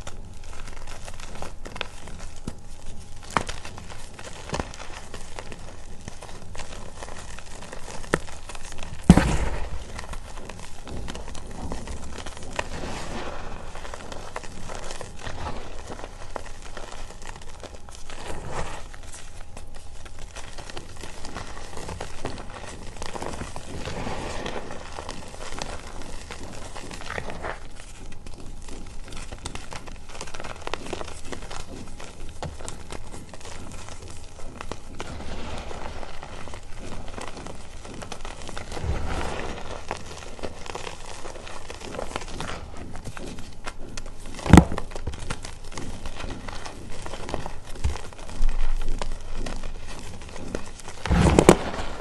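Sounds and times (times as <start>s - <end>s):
chalk crunching in hands: 0.0s - 52.0s
rustle of powder: 0.0s - 52.0s.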